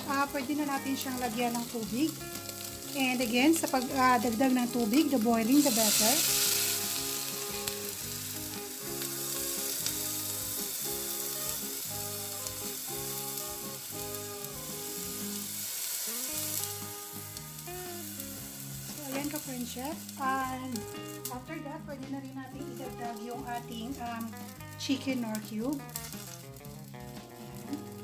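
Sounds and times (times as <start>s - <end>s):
soft instrumental music: 0.0s - 28.0s.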